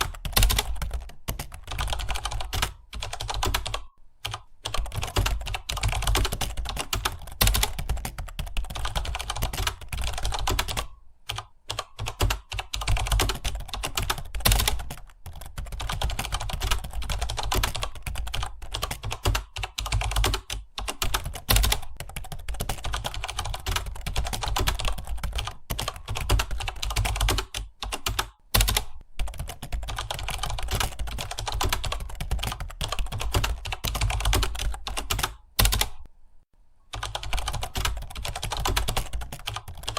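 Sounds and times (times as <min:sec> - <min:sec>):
keyboard typing: 0:00.0 - 0:36.1, 0:36.9 - 0:39.9.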